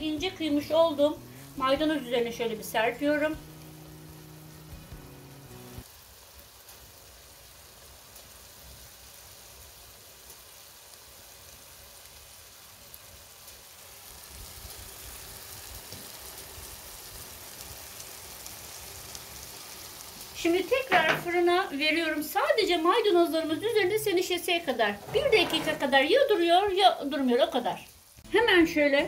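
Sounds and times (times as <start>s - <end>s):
food sizzling in baking tray: 0.0s - 29.0s.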